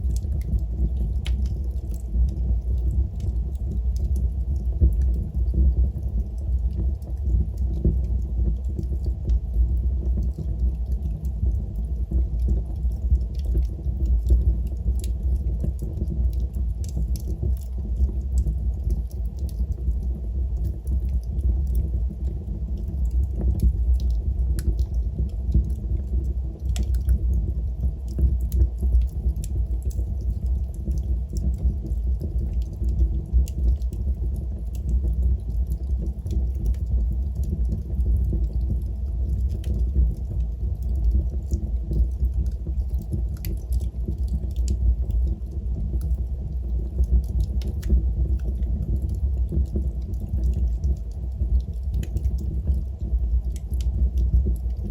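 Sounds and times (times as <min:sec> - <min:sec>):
fire crackling and popping: 0:00.0 - 0:54.9
fire rumbling: 0:00.0 - 0:54.9.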